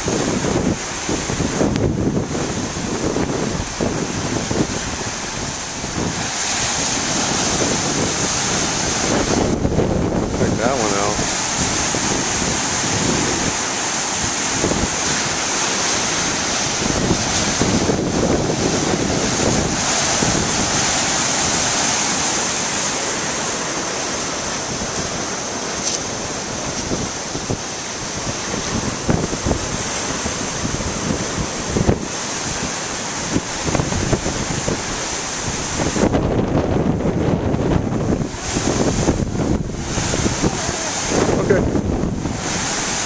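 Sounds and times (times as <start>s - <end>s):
waves breaking on rocky shore: 0.0s - 43.0s
wind buffeting microphone: 0.0s - 43.0s.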